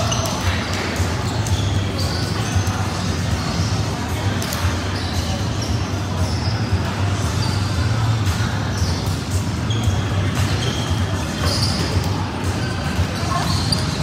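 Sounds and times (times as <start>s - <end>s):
sneakers squeaking: 0.0s - 14.0s.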